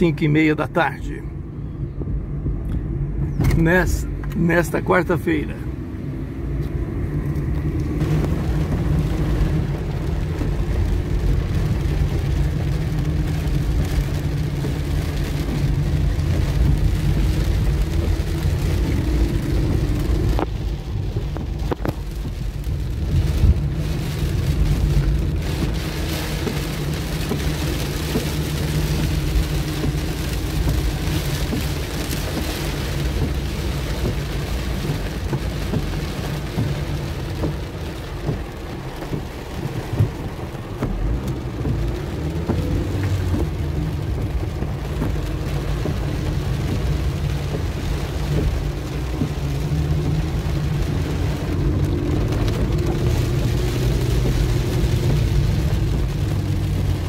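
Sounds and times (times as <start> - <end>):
car engine and tyre drone: 0.0 - 57.0
rain on car roof: 0.0 - 57.0.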